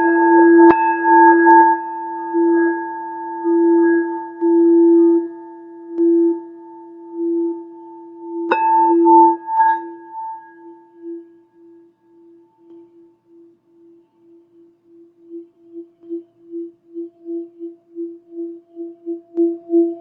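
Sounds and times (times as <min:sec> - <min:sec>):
singing bowl ringing tone: 0:00.0 - 0:20.0.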